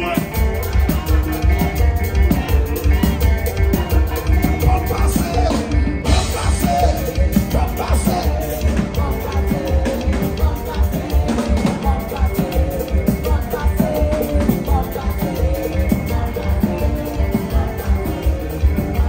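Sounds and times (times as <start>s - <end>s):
church band playing amplified music: 0.0s - 19.0s
heavy bass beat: 0.0s - 19.0s
singers' voices: 0.0s - 19.0s.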